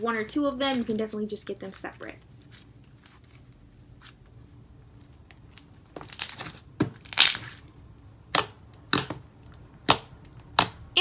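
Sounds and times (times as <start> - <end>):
slime crackling while stretched: 0.2 - 10.8.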